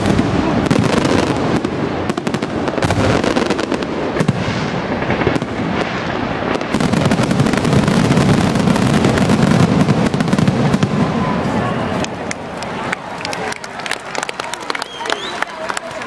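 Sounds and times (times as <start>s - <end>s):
fireworks crackling and booming: 0.0s - 16.0s.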